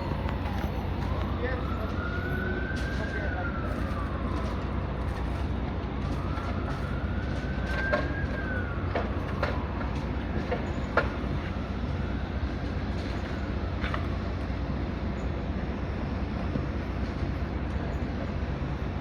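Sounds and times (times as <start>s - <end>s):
distant siren wailing: 0.0s - 19.0s.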